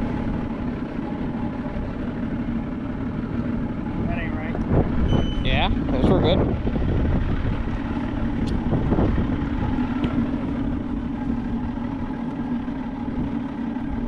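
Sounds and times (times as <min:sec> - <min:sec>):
engine hum: 0:00.0 - 0:14.0
low rumble: 0:00.0 - 0:14.0.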